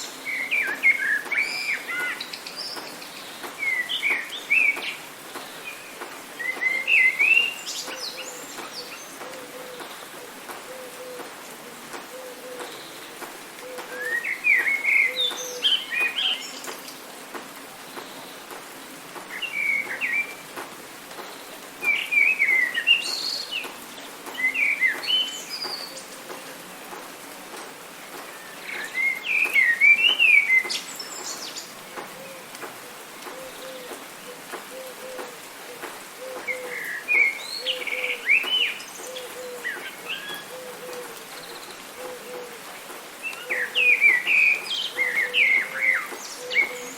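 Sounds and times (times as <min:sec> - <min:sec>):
songbirds chirping and whistling: 0:00.0 - 0:17.1, 0:17.8 - 0:46.9
rain hiss: 0:00.0 - 0:46.9.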